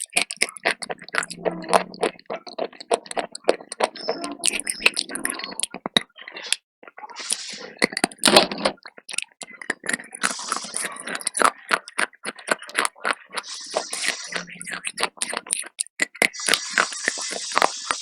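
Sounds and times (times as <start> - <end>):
slate pencil being chewed: 0.0 - 5.8, 9.1 - 18.0.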